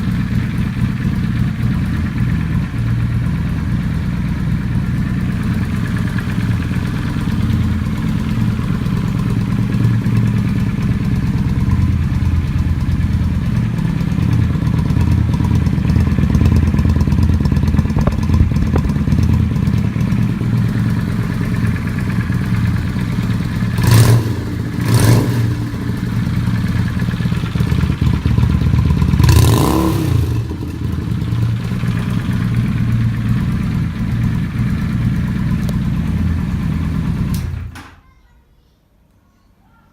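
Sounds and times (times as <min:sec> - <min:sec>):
motorcycle engine idling: 0:00.0 - 0:37.8
engine revving: 0:03.3 - 0:37.7.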